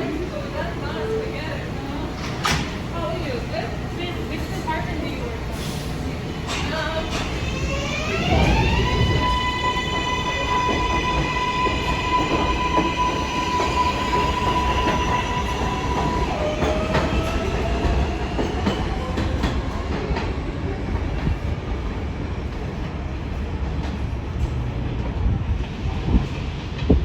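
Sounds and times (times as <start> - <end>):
subway train electric whine: 0.0 - 27.0
wheels rumbling on rails: 0.0 - 27.0.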